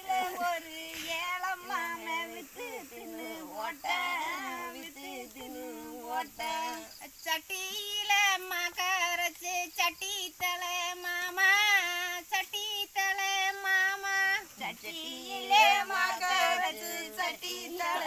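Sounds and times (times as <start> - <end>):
women singing folk song: 0.0 - 18.0.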